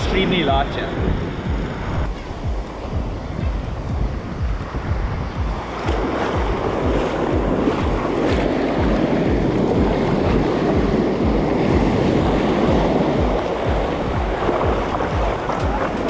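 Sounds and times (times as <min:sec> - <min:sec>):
surf washing and churning: 0:00.0 - 0:16.0
wind buffeting microphone: 0:00.0 - 0:16.0.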